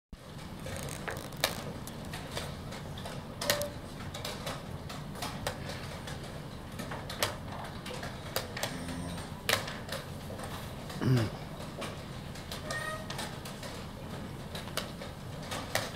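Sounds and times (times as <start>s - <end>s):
low room hum: 0.2s - 15.9s.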